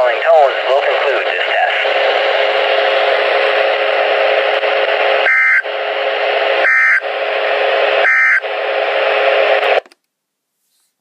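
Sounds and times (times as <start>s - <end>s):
radio static hiss: 0.0s - 9.8s.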